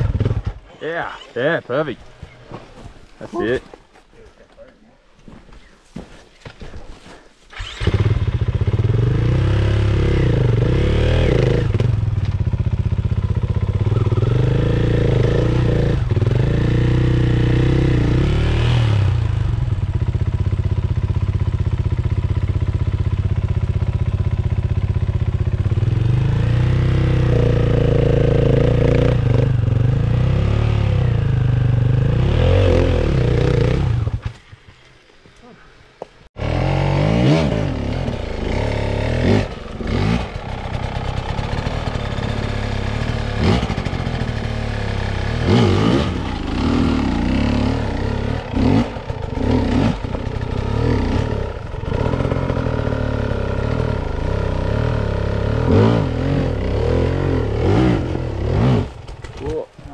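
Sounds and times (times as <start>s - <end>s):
dirt bike engine revving: 0.0s - 0.6s, 7.5s - 34.4s, 36.4s - 59.6s.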